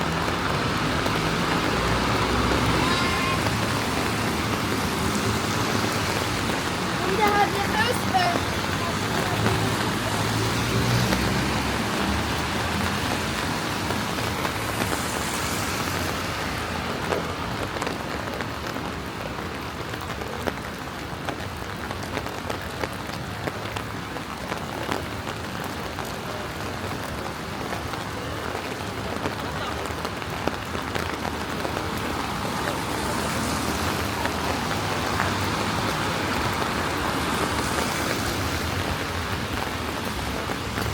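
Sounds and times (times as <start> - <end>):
rain on wet pavement: 0.0 - 40.9.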